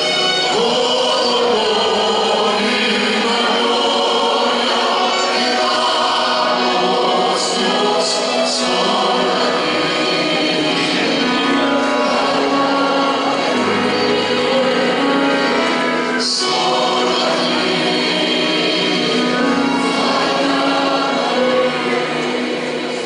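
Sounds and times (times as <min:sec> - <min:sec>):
mixed choir singing: 0:00.0 - 0:23.0.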